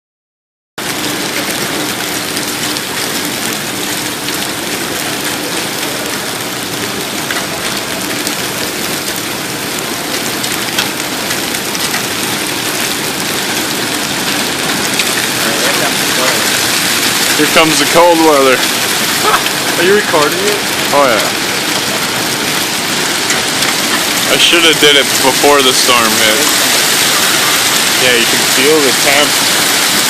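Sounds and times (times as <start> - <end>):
hail and heavy rain: 0.8 - 30.0
hailstones striking hard surfaces: 0.8 - 30.0.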